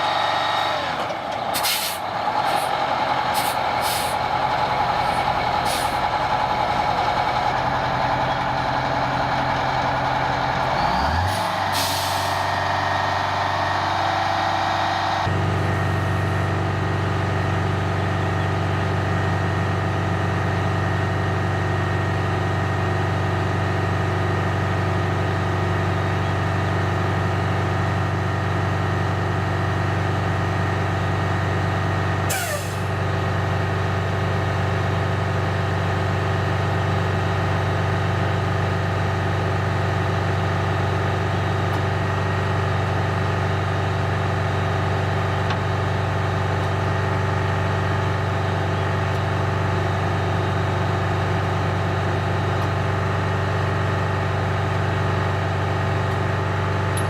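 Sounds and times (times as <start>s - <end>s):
diesel truck engine droning: 0.0s - 57.0s.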